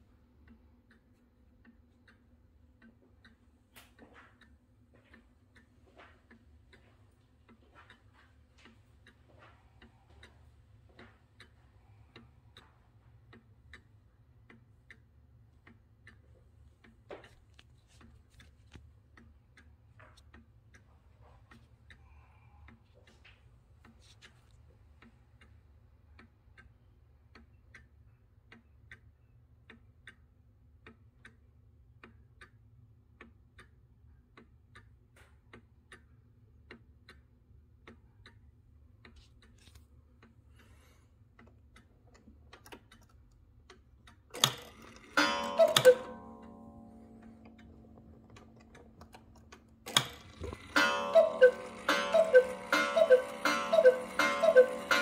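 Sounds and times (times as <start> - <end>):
clock ticking: 0.0 - 55.0.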